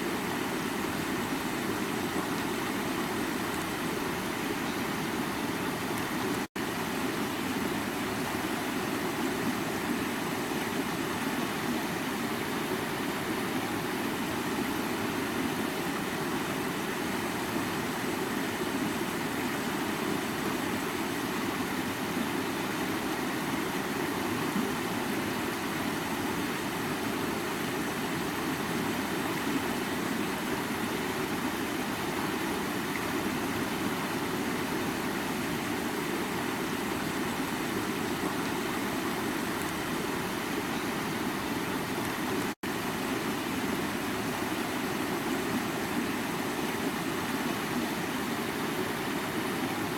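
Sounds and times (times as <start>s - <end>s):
stream running over rocks: 0.0s - 49.9s.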